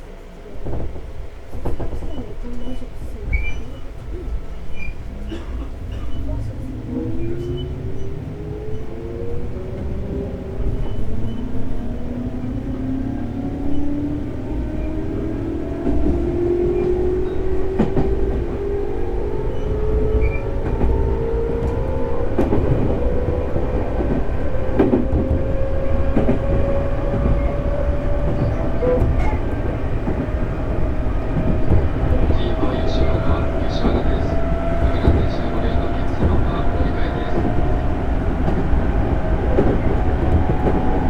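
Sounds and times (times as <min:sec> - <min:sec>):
wheels rumbling on rail: 0:00.0 - 0:41.0
rail joint clicks: 0:00.6 - 0:41.0.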